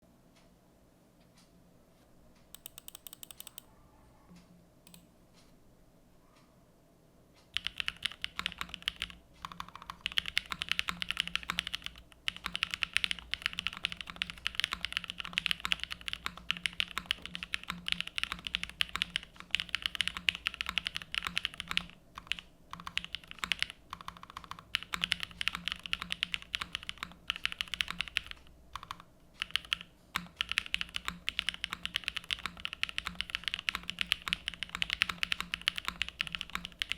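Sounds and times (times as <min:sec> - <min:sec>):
typing on mechanical keyboard: 0:02.6 - 0:03.7, 0:07.6 - 0:36.9.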